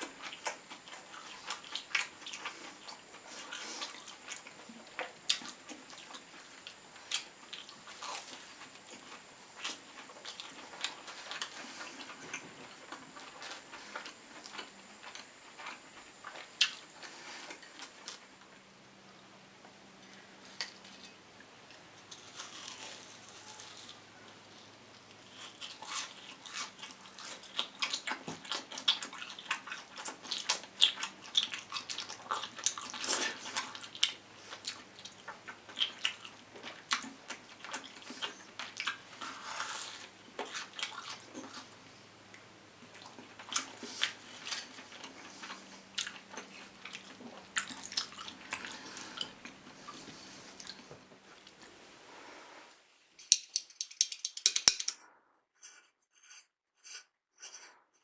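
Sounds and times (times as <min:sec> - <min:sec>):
crunching and chewing food: 0:00.0 - 0:51.8.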